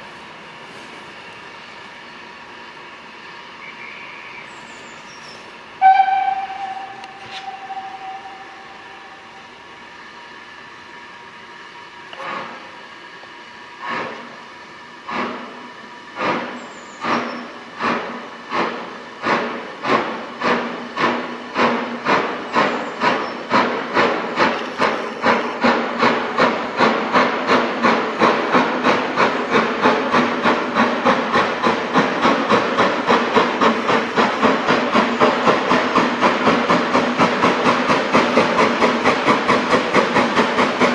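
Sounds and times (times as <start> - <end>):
steam locomotive exhaust beats: 0.0 - 40.9.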